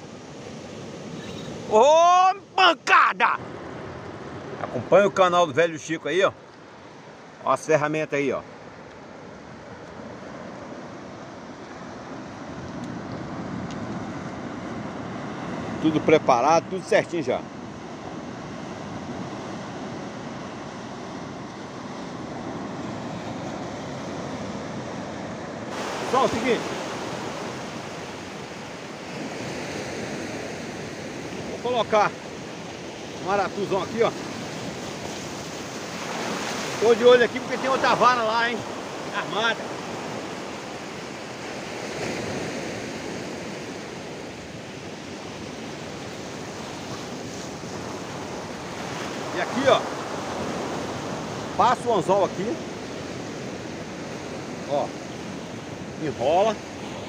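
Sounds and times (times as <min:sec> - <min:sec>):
surf washing against rocky shore: 0:00.0 - 0:57.0.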